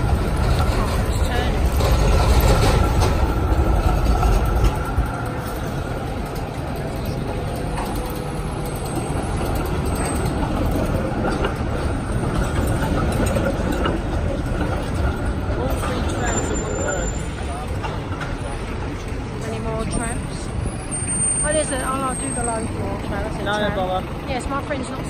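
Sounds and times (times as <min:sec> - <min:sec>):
distant trams moving: 0:00.0 - 0:25.0
street and traffic noise: 0:00.0 - 0:25.0
tram passing with low rumble: 0:00.0 - 0:25.0.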